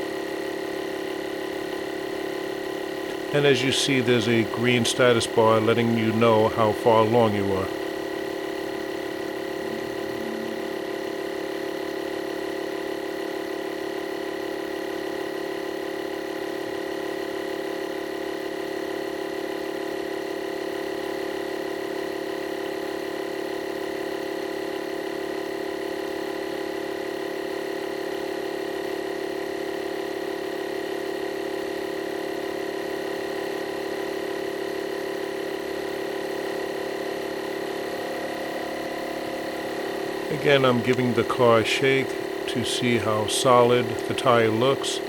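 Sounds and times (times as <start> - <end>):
air compressor running: 0.0 - 45.0.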